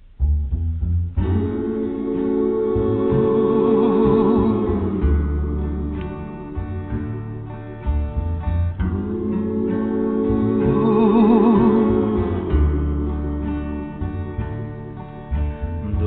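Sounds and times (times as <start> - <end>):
steady bass: 0.0 - 16.0
wavering held notes: 0.0 - 16.0
slow acoustic guitar ballad: 1.2 - 16.0.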